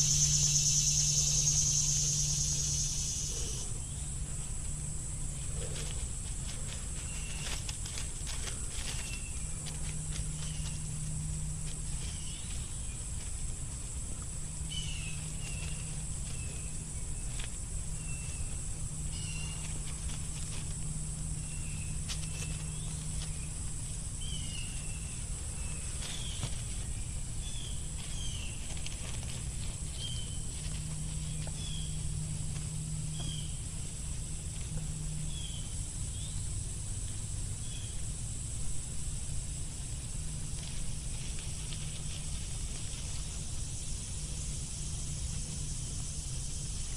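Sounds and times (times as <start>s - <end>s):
animal rustling through dry leaves: 0.0s - 37.6s, 38.6s - 46.9s.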